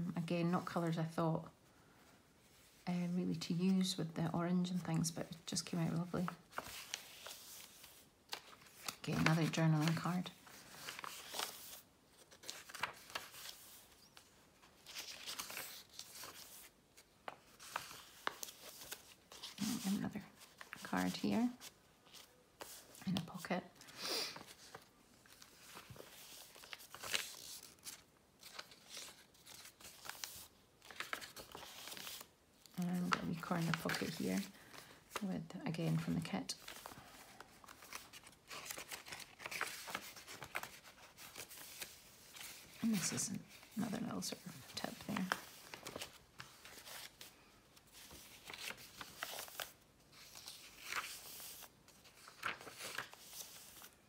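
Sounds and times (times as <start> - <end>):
paper pages rustling: 5.6 - 54.0.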